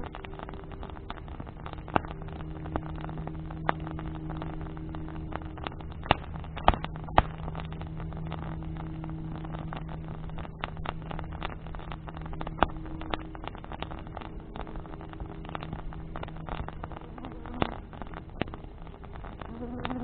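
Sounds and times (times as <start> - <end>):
bonfire crackling and popping: 0.0 - 20.0
low hum: 0.0 - 20.0.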